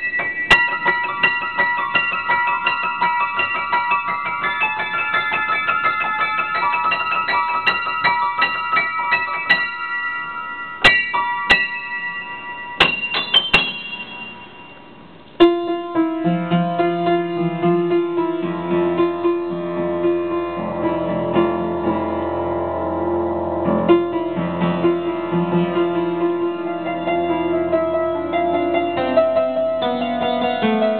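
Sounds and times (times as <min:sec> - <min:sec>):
solo piano: 0:00.0 - 0:30.9.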